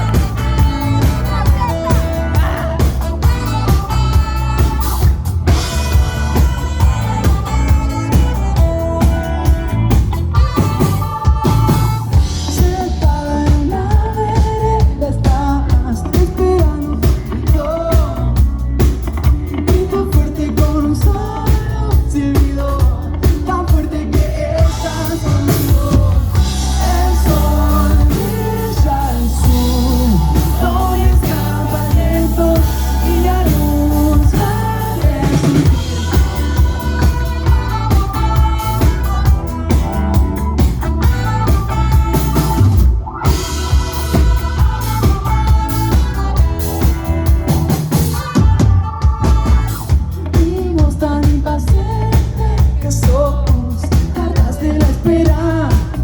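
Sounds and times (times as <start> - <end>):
lead vocal singing: 0.0 - 9.6, 11.9 - 39.4, 48.1 - 56.0
live rock band playing: 0.0 - 56.0.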